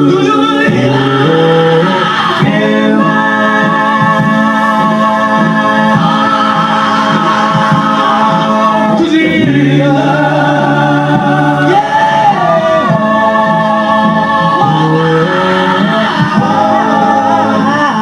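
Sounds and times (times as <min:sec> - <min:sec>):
male quartet singing in harmony: 0:00.0 - 0:18.0.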